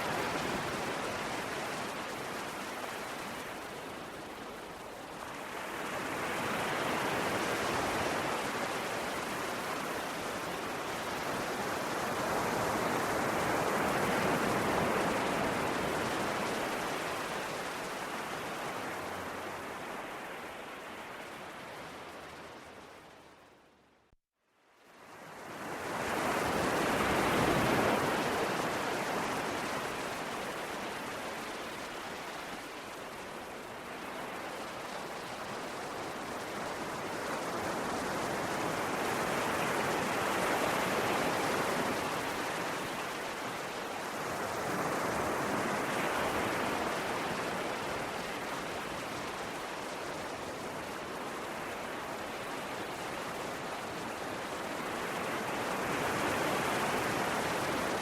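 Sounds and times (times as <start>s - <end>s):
sea waves breaking on shore: 0.0s - 23.4s, 25.0s - 58.0s.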